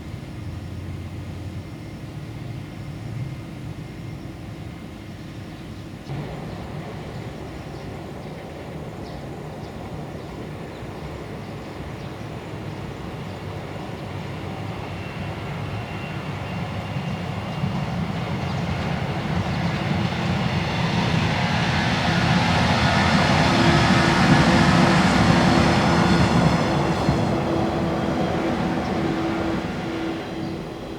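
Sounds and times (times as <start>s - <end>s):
electric train rumble and whine: 0.0s - 30.9s.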